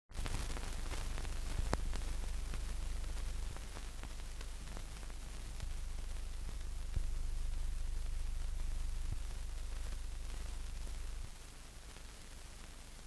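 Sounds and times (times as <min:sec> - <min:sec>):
film clicks and crackle: 0:00.1 - 0:13.0
film hiss and hum: 0:00.1 - 0:13.0.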